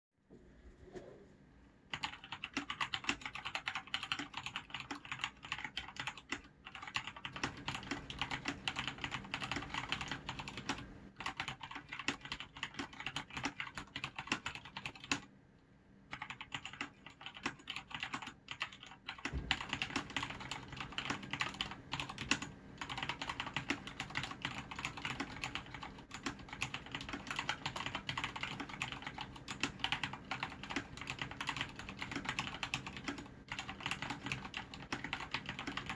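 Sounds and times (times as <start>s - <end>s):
mechanical keyboard typing: 1.9s - 15.3s, 16.1s - 35.9s.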